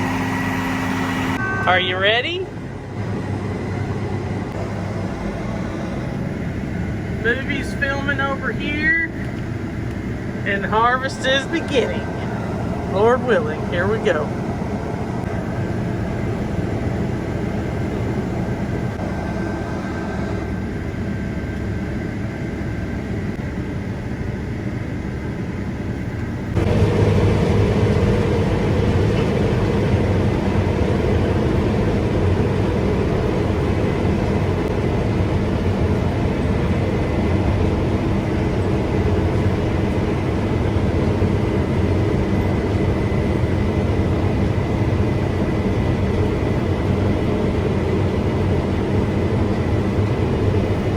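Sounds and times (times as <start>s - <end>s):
combine harvester running: 0.0s - 50.9s
steady low hum: 0.0s - 50.9s.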